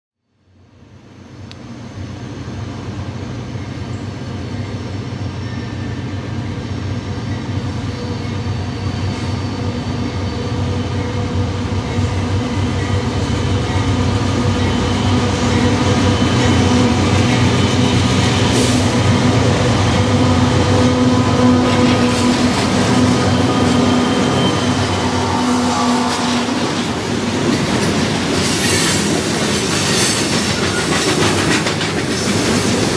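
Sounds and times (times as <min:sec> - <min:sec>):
diesel locomotive rumble: 0:01.4 - 0:32.9.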